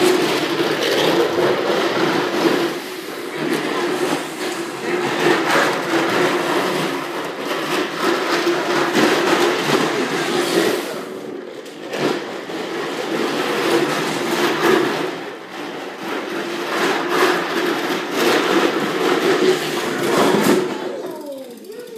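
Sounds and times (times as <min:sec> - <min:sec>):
plastic wheels rolling on tile floor: 0:00.0 - 0:21.9.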